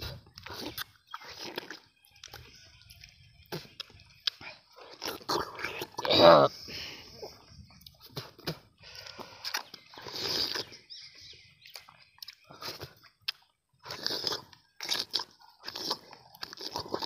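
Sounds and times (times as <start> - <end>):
wet bites and chewing: 0.0 - 6.2, 7.8 - 10.8, 11.6 - 17.0.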